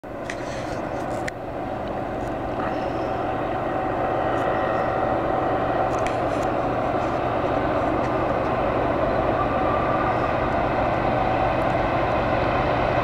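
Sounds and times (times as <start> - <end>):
distant diesel train drone: 0.0 - 13.0.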